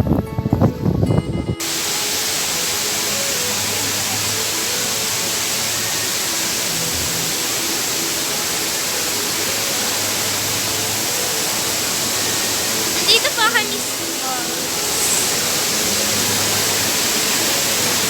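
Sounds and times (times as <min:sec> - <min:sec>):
ocean surf on the shore: 0:01.6 - 0:18.0.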